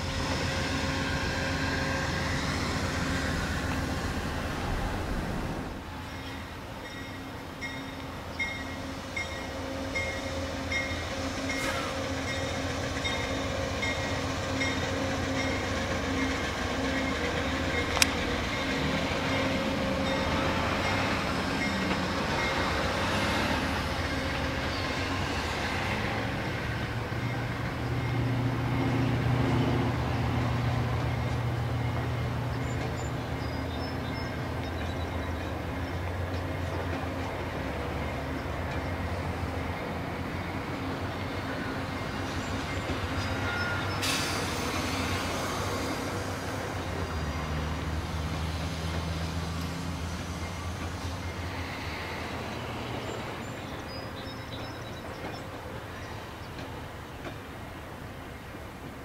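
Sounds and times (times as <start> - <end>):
diesel locomotive running: 0.0 - 59.0
train cars rumbling: 0.0 - 59.0.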